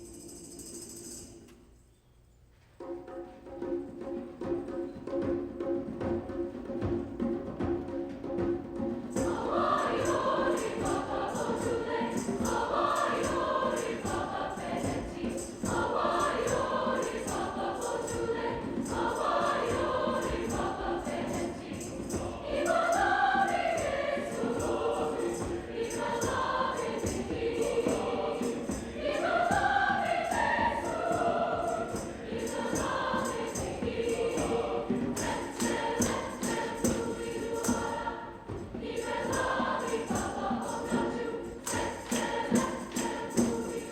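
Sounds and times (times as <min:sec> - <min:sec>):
choir singing: 0:02.8 - 0:43.9.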